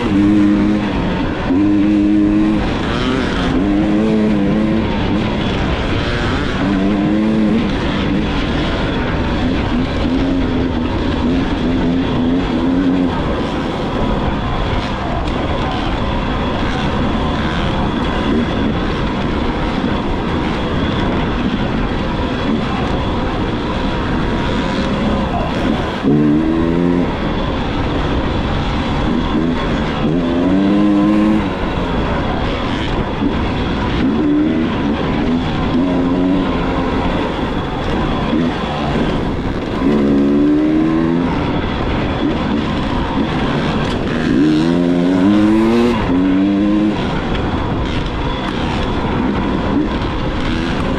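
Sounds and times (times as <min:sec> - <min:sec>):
dirt bike engine revving: 0:00.0 - 0:50.9
steady rushing noise: 0:00.0 - 0:50.9.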